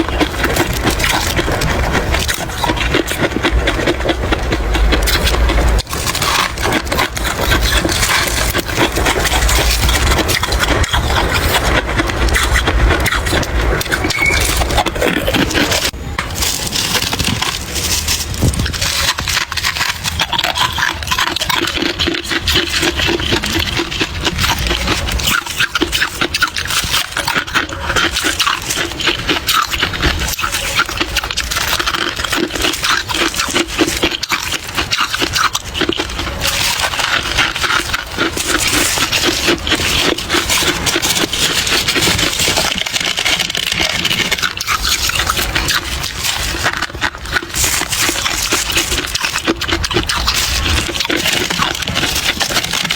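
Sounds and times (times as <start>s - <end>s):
chewing ice crunches: 0.0s - 52.9s.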